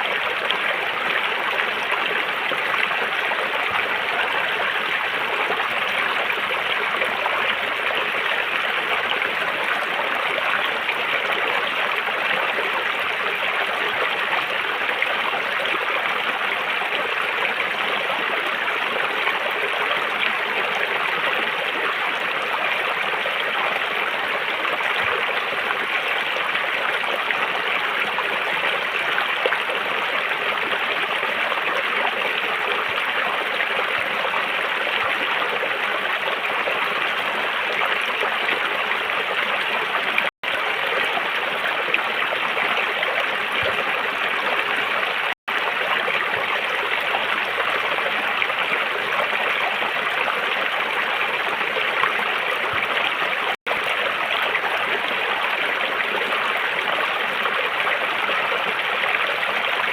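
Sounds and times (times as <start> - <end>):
river water flowing over stones: 0.0 - 59.9.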